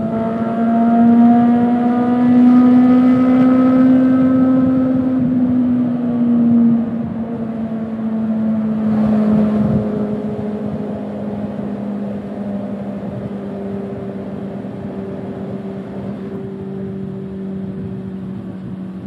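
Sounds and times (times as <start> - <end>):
motorcycle engine in tunnel: 0.0 - 19.0.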